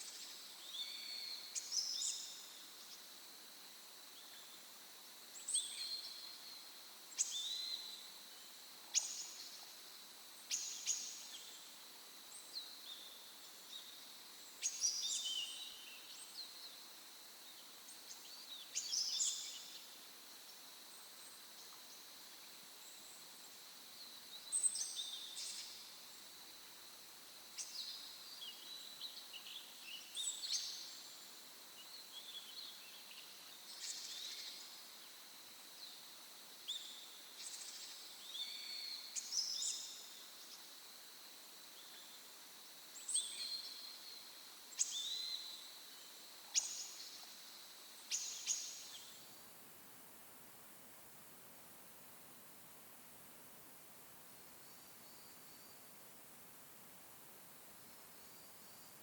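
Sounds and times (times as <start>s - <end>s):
faint steady hiss: 0.0s - 59.0s.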